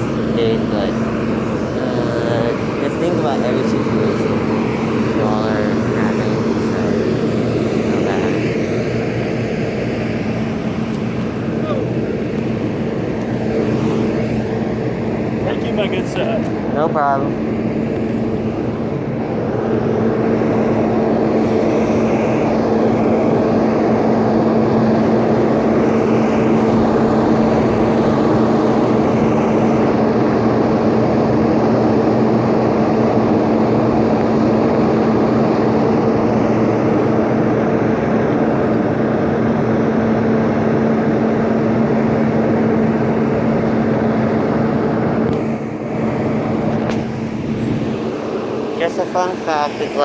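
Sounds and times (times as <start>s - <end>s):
loud mechanical drone: 0.0s - 50.0s.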